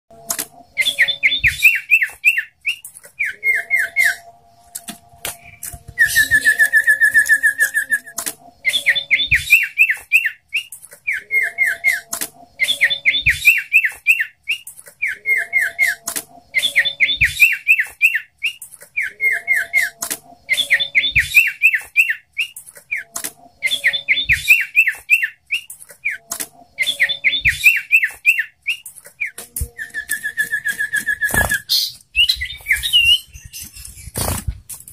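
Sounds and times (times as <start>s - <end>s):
bird trill: 0.1s - 34.4s.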